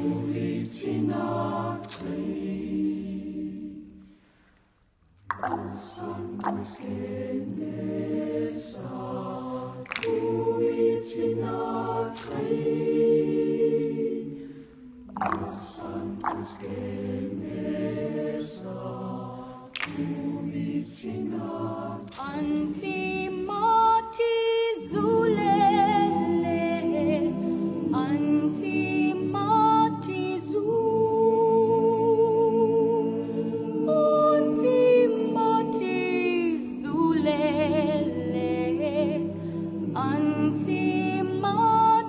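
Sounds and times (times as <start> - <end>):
mixed choir singing: 0.0 - 4.1, 5.6 - 42.0.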